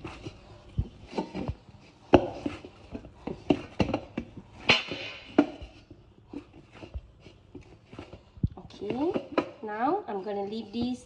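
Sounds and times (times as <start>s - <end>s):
dough being kneaded by hand: 0.0s - 11.0s.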